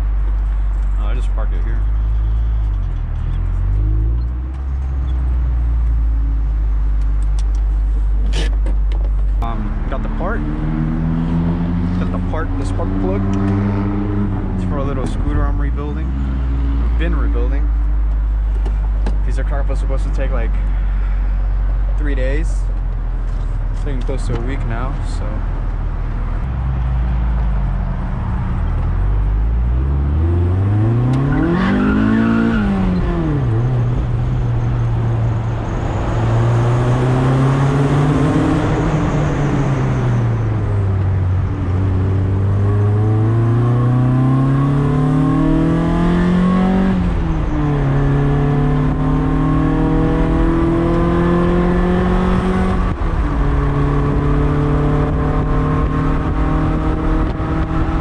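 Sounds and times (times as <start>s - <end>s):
wind and road noise: 0.0s - 58.0s
car engine accelerating through gears: 1.6s - 18.7s, 26.0s - 58.0s.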